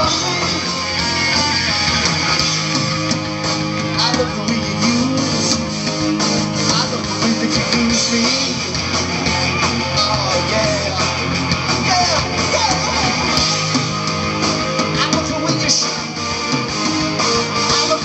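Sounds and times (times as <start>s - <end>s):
live hard rock band: 0.0s - 18.0s.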